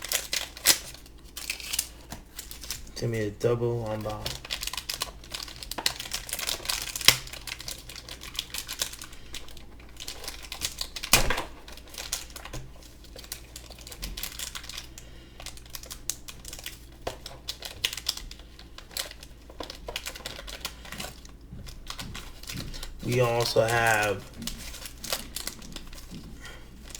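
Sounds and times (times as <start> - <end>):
packaging crinkling: 0.0 - 3.0, 3.8 - 26.9.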